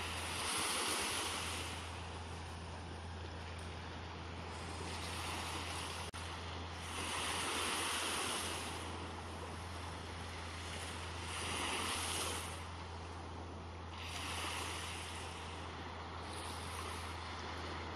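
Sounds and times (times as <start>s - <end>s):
small waves on sandy shore: 0.0s - 17.9s.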